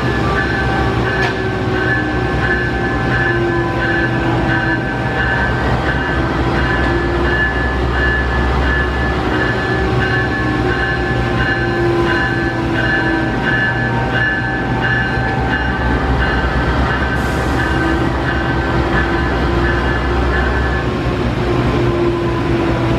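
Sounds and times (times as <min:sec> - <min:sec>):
diesel locomotive idling: 0:00.0 - 0:22.9.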